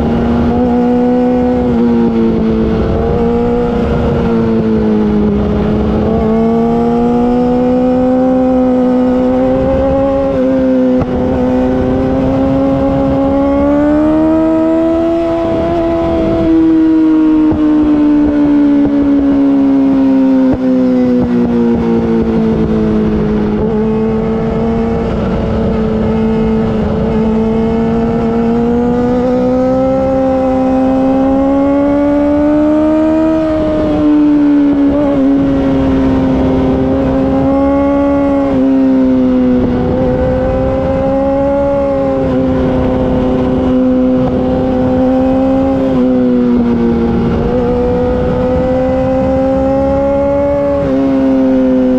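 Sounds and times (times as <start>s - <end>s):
motorcycle engine revving: 0.0s - 51.9s
wind rush: 0.0s - 51.9s.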